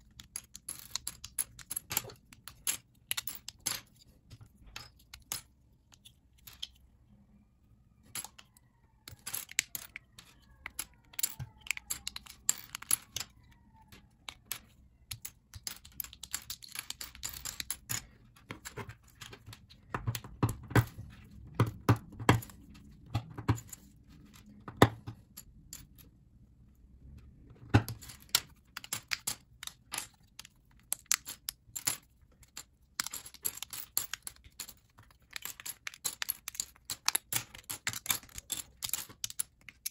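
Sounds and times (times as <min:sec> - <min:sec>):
plastic bricks clicking and snapping: 0:00.0 - 0:06.8, 0:08.0 - 0:26.0, 0:27.6 - 0:39.9
plastic pieces clattering on table: 0:00.0 - 0:06.8, 0:08.0 - 0:26.1, 0:27.6 - 0:39.9.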